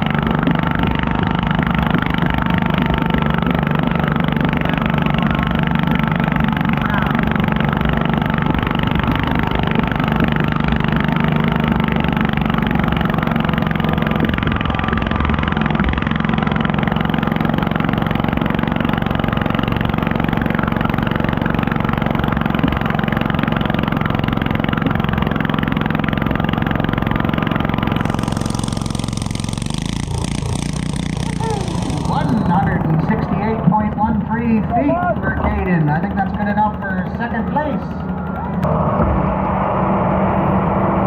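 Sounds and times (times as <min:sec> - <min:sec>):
small tractor engine under load: 0:00.0 - 0:38.9.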